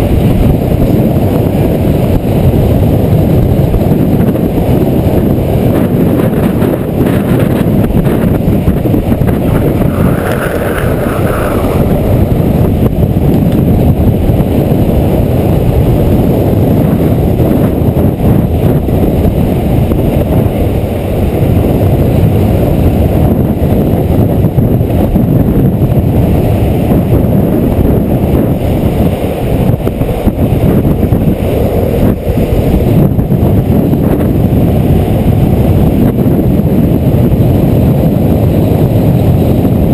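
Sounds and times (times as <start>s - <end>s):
longboard wheels rolling on asphalt: 0.0s - 39.9s
wind buffeting microphone: 0.0s - 39.9s.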